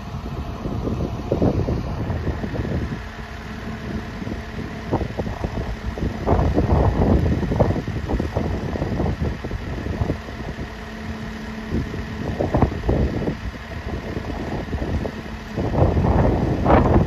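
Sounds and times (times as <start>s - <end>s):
distant truck engine hum: 0.0s - 17.0s
wind buffeting microphone: 0.0s - 17.0s.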